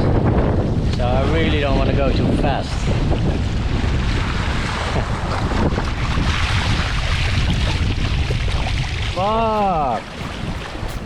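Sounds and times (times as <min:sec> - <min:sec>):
wind buffeting microphone: 0:00.0 - 0:11.0
water rushing past hull: 0:00.8 - 0:11.0.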